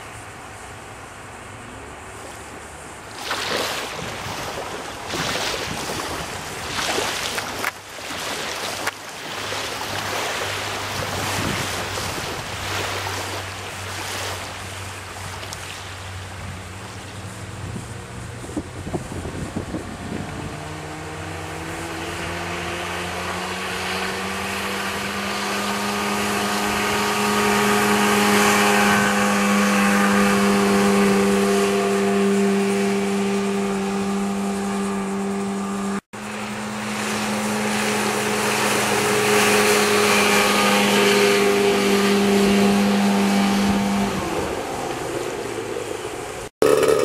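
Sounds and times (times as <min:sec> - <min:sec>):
outboard motor boat passing: 0:00.0 - 0:47.0.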